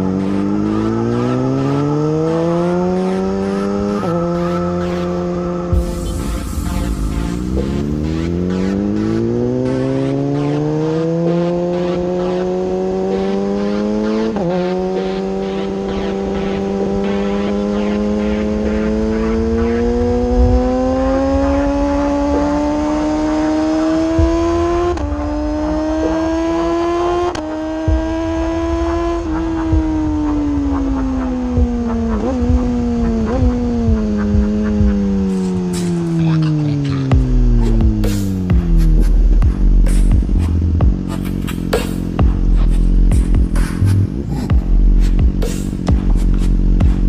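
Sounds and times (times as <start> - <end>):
motorcycle accelerating: 0.0 - 47.0.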